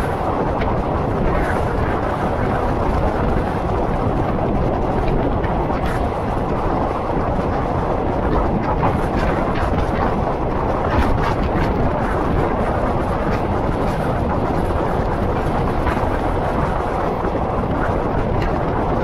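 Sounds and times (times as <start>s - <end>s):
train engine and wheels rumbling: 0.0s - 19.0s
wind on microphone: 0.0s - 19.0s.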